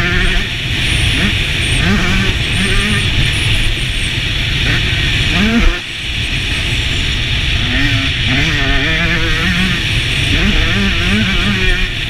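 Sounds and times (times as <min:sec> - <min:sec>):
dirt bike engine revving: 0:00.0 - 0:12.0
wind rumble on microphone: 0:00.0 - 0:12.0.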